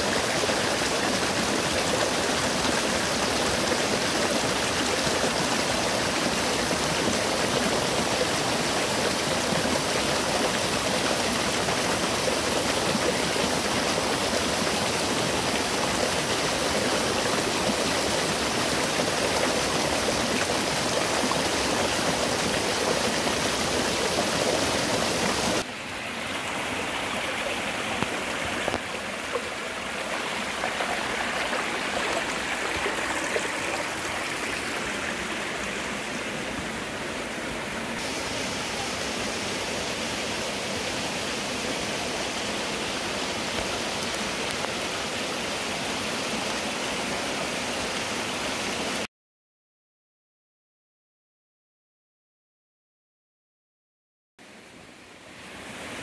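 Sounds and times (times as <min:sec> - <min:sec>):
soft water flow: 0:00.0 - 0:49.1
stream rushing over rocks: 0:00.0 - 0:49.1.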